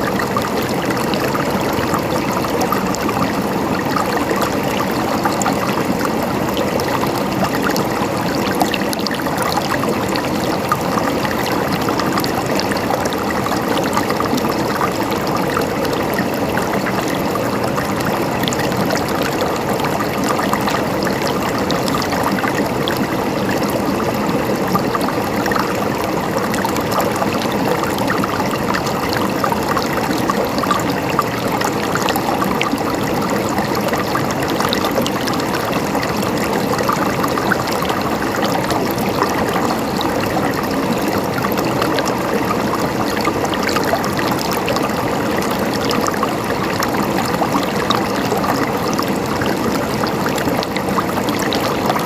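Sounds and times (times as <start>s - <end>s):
water gurgling and trickling: 0.0s - 52.0s.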